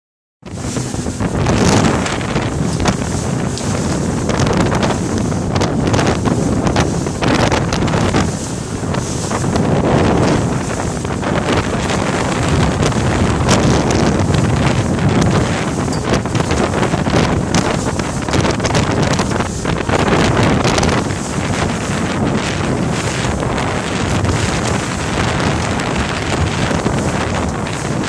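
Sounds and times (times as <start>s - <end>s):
boat engine and water rushing: 0.4s - 28.0s
wind buffeting microphone: 0.4s - 28.0s
gusty thumps: 0.5s - 28.0s.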